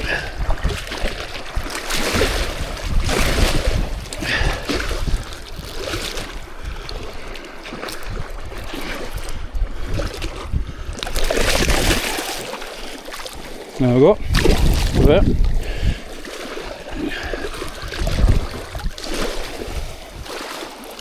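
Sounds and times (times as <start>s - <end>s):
wind buffeting microphone: 0.0s - 12.1s, 13.3s - 20.4s
water sloshing at shore: 0.0s - 21.0s.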